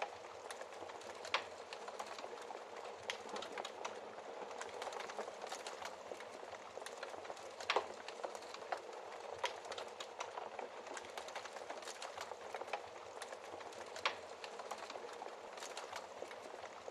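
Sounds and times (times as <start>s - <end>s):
wood fire crackling and hissing: 0.0s - 16.9s.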